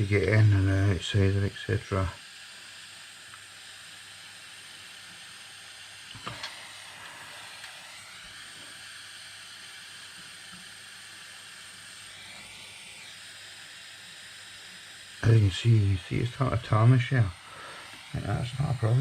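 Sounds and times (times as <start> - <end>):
gas torch hissing: 0.0 - 19.0.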